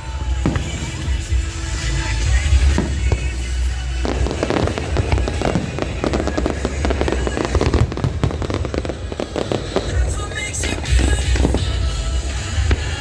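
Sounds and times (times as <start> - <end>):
fireworks bursting and crackling: 0.0 - 13.0
music playing: 0.0 - 13.0.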